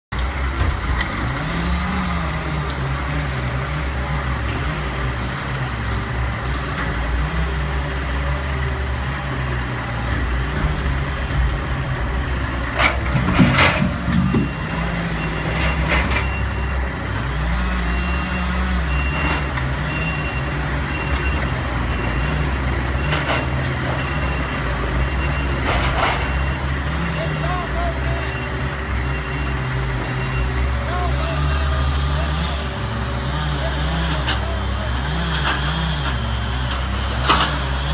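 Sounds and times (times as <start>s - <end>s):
diesel engine revving: 0.1s - 37.9s.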